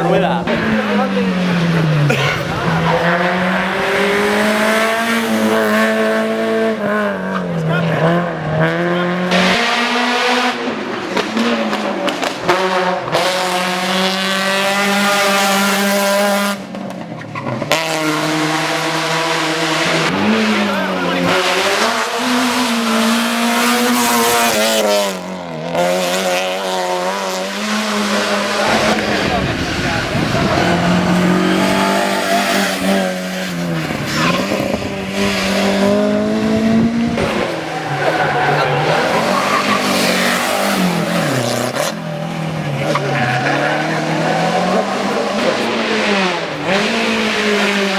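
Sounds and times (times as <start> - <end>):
race car engine at full throttle: 0.0 - 47.9.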